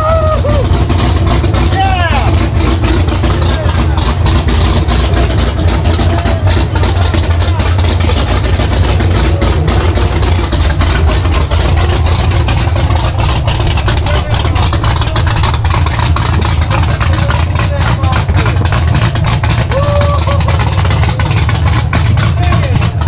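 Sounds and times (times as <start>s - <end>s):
loping engine idling: 0.0s - 23.0s.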